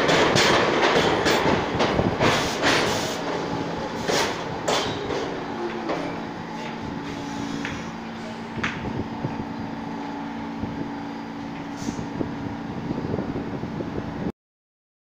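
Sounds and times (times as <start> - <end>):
subway train humming: 0.0 - 14.3.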